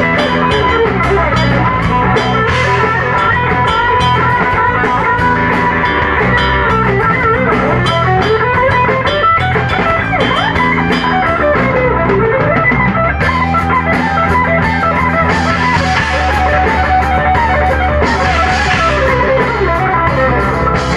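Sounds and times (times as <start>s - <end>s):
live rock band playing loudly: 0.0s - 20.9s.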